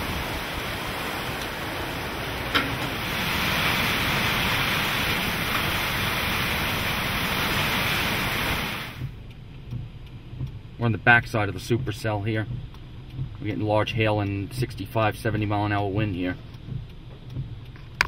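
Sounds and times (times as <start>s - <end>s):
wind and rain buffeting microphone: 0.0s - 18.0s.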